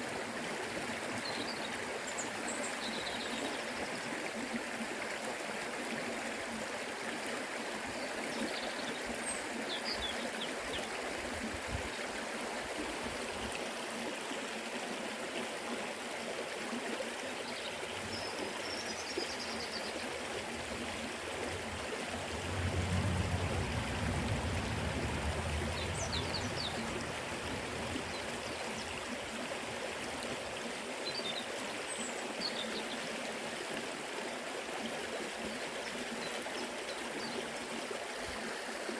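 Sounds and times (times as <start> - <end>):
river flowing: 0.0 - 38.9.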